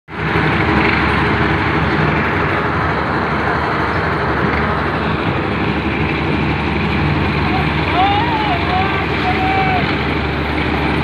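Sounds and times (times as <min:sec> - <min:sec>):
concrete mixer running: 0:00.1 - 0:11.0.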